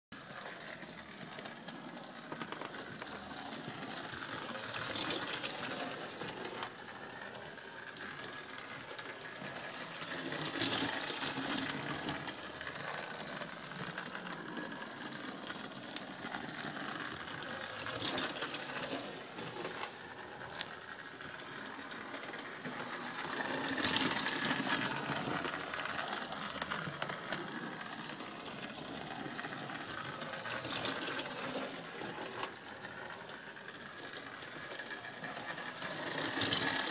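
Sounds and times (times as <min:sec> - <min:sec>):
toy train motor whir: 0:00.2 - 0:36.9
wheels rattling on metal rails: 0:02.3 - 0:36.9.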